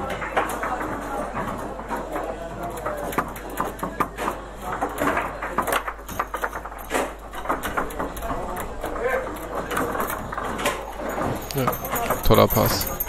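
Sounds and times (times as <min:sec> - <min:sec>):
foosball clacks and knocks: 0:00.0 - 0:13.0.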